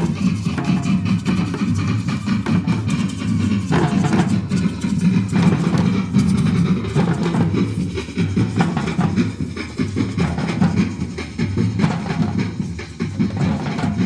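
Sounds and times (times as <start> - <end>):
latin drums playing: 0.0 - 14.0.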